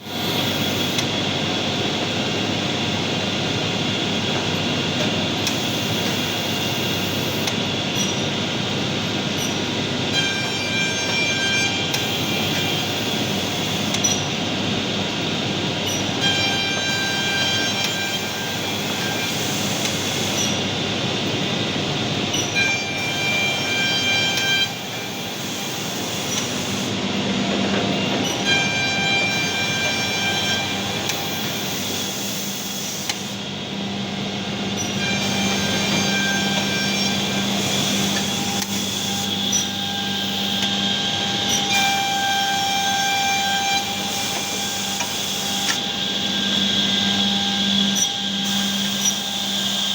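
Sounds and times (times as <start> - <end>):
machine whirring: 0.1 - 49.9.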